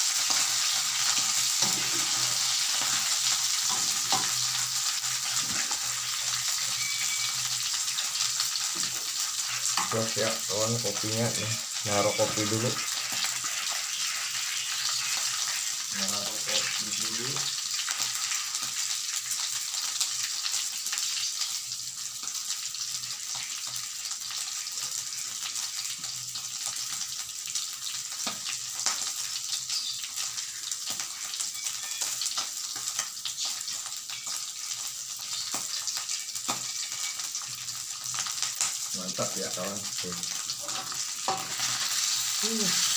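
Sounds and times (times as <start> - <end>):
meat sizzling in hot oil: 0.0 - 42.9.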